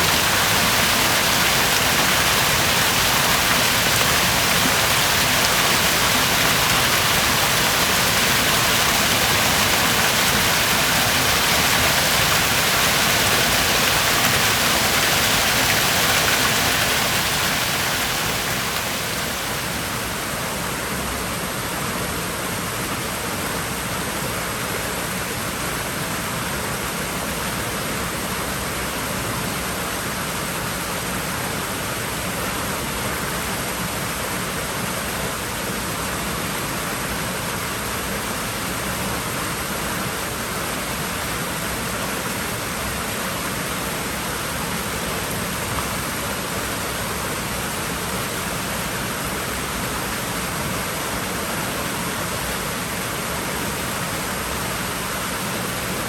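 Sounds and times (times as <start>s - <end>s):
water running in a pool: 0.0s - 56.0s.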